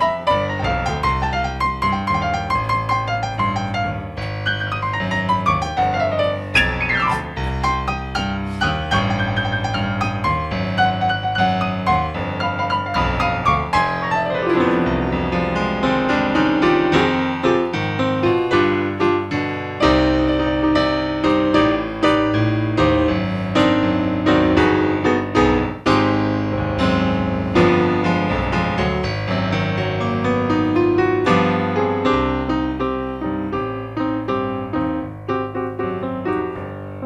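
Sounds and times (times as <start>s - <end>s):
jazz-blues piano solo: 0.0s - 37.0s.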